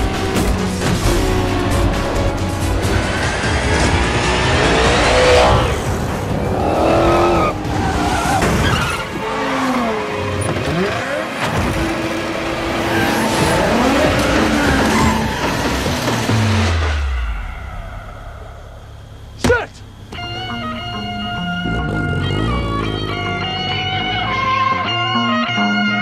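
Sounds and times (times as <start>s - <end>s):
background music: 0.0s - 18.6s, 20.2s - 26.0s
car engines revving: 0.0s - 25.3s.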